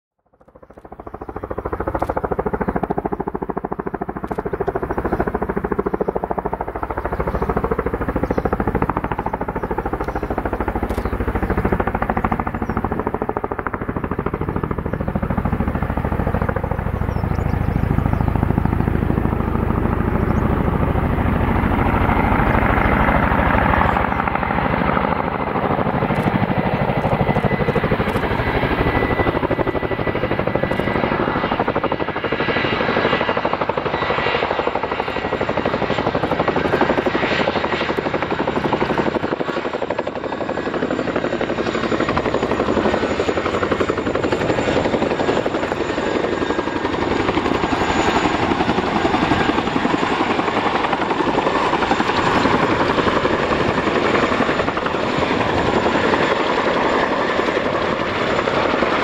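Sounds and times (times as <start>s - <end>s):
helicopter rotors beating: 0.2s - 59.0s.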